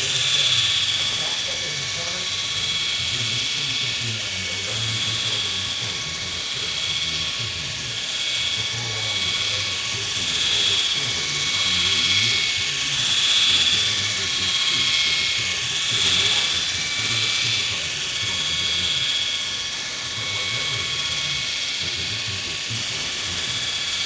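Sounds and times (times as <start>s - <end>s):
toy helicopter whining: 0.0s - 24.0s.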